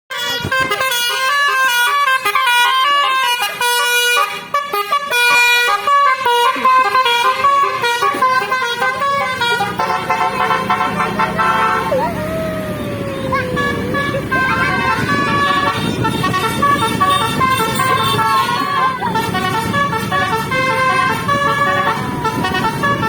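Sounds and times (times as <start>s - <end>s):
musical horn playing a fast tune: 0.1s - 23.0s.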